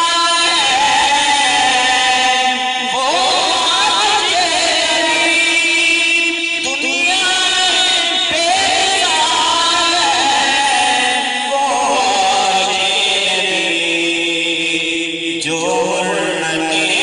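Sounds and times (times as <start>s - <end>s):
man singing through a microphone: 0.0s - 17.0s.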